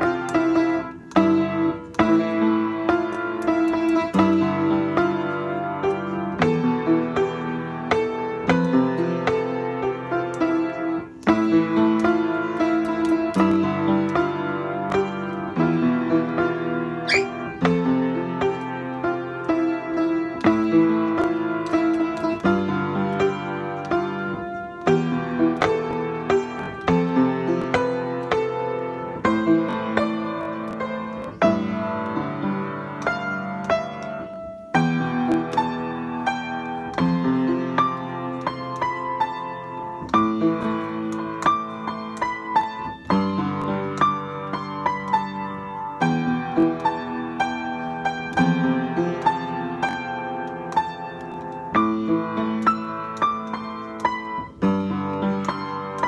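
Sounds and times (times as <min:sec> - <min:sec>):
piano playing chords and melody: 0:00.0 - 0:56.0.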